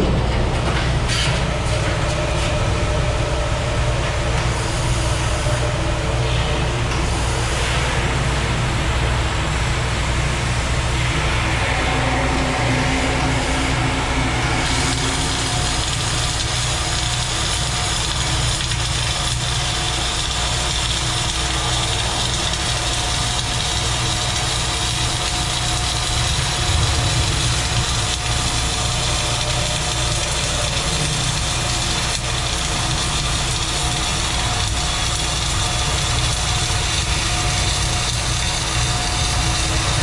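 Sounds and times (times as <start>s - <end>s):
low machine hum: 0.0s - 40.0s
welding arc hiss: 7.1s - 40.0s.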